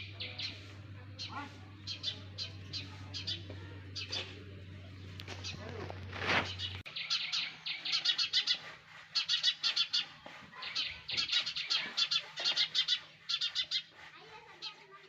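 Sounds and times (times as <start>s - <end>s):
sparrow chicks chirping: 0.0s - 15.0s.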